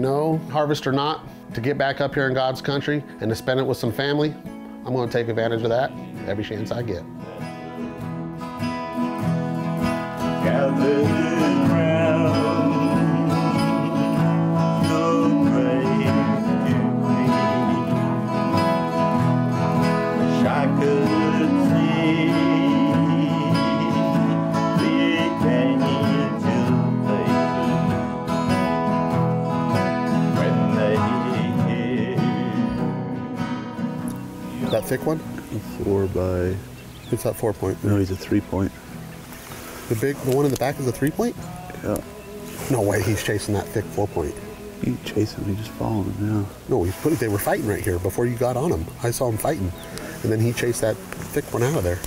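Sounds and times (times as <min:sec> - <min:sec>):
acoustic guitar country music: 0:00.0 - 0:52.0.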